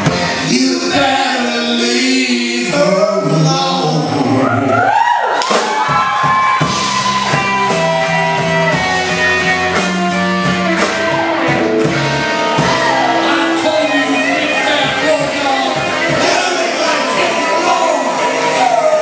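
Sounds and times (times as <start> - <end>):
electric guitar: 0.0 - 2.0, 5.7 - 19.0
drum kit beat: 0.0 - 2.6, 5.4 - 19.0
bass guitar: 0.0 - 19.0.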